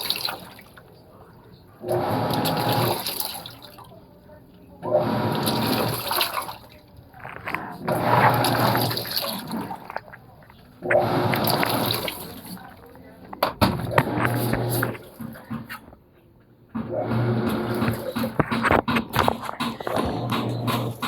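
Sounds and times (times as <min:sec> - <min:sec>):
water churning and sloshing: 0:00.0 - 0:16.1, 0:16.7 - 0:21.0.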